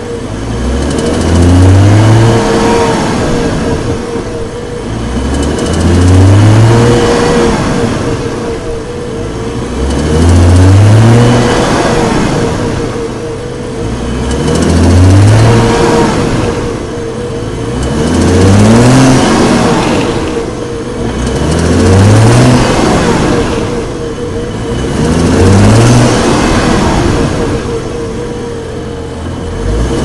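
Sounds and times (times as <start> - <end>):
steady high-pitched tone: 0.0 - 29.9
car engine revving: 0.0 - 30.0.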